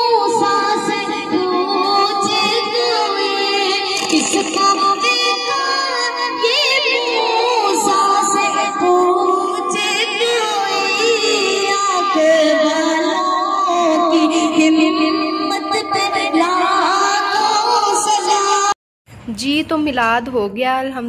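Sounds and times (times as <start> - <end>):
girl singing into microphone: 0.0 - 18.7.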